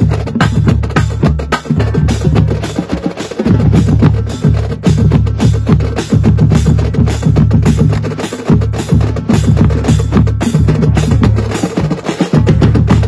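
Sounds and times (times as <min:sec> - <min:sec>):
bass drums beating: 0:00.0 - 0:13.0
snare and tenor drums: 0:00.0 - 0:13.0.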